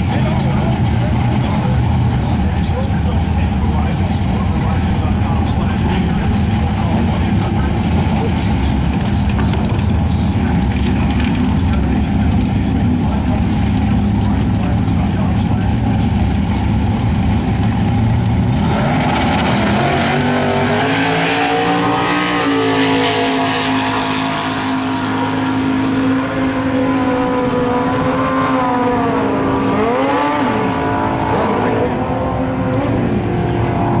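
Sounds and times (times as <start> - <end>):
drag racing car engines: 0.0 - 34.0.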